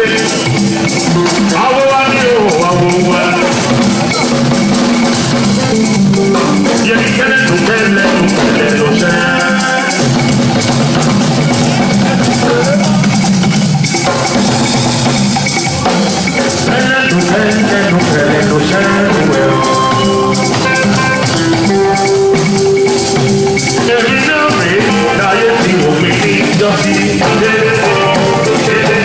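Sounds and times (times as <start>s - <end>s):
drum kit beat: 0.0s - 29.0s
live band playing: 0.0s - 29.0s.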